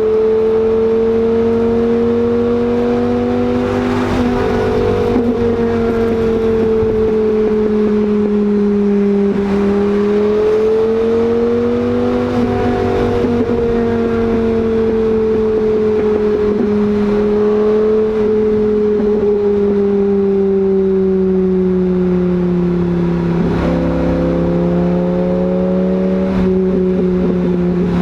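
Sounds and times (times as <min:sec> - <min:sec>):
sports car engine cruising: 0:00.0 - 0:28.0.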